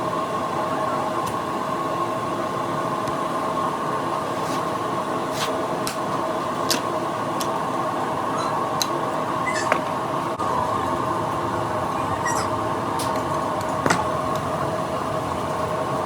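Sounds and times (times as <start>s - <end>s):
machine hum with whine: 0.0s - 16.0s.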